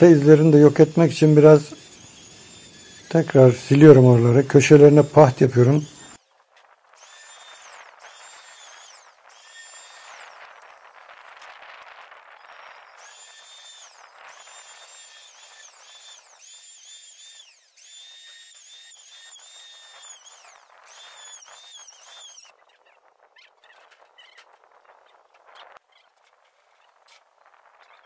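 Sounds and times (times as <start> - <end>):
electric sander motor whine: 0.0 - 23.0.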